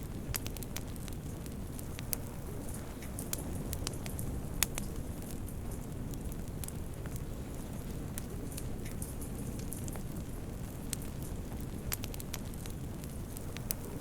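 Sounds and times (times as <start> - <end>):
fire flames rumbling: 0.0 - 14.0
wood fire crackling and popping: 0.0 - 14.0.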